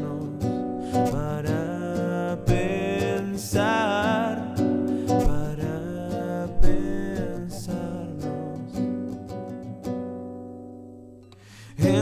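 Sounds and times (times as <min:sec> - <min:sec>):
man singing: 0:00.0 - 0:09.3, 0:11.5 - 0:12.0
acoustic guitar: 0:00.0 - 0:12.0.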